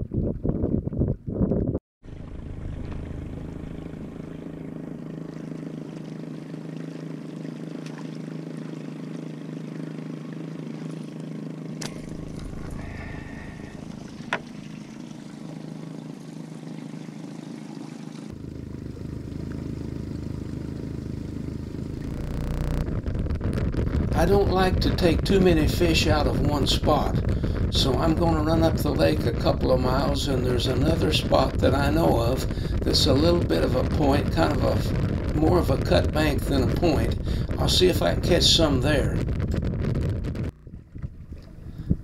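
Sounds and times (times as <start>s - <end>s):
outboard motor running: 2.0s - 42.0s.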